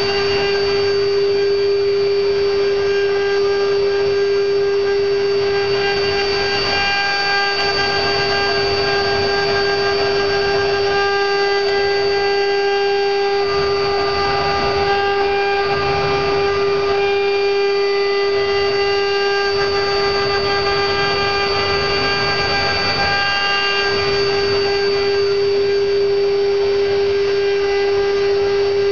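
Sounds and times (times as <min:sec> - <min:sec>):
bit cutting wood: 0:00.0 - 0:28.7
router spindle whine: 0:00.0 - 0:28.9.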